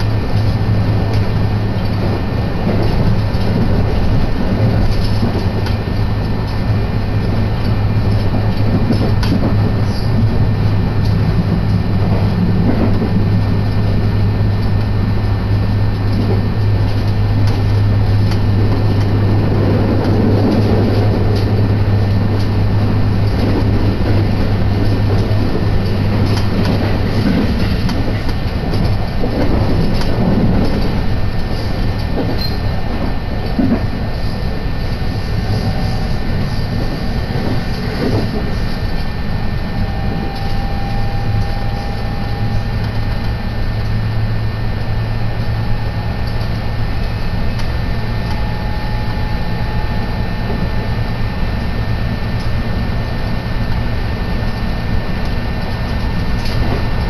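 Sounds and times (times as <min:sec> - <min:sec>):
train low hum: 0:00.0 - 0:57.0
wheel and track noise: 0:00.0 - 0:57.0.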